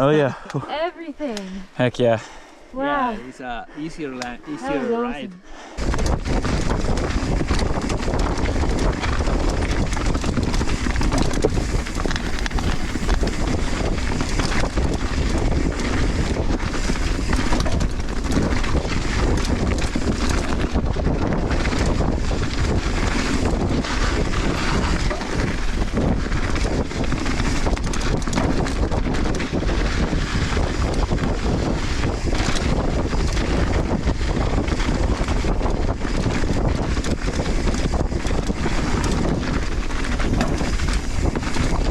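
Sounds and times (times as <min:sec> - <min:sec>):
wind rushing over microphone: 0:03.0 - 0:41.9
bike knocking and rattling: 0:05.8 - 0:41.9.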